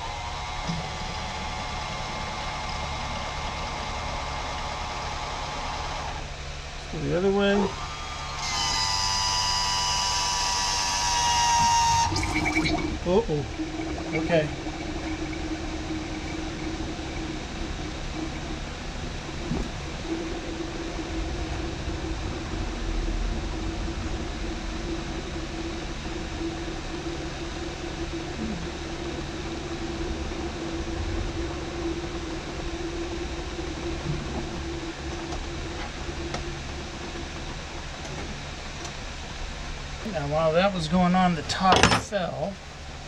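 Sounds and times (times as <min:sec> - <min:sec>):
electric hydraulic pump whining hum: 0:00.0 - 0:43.0.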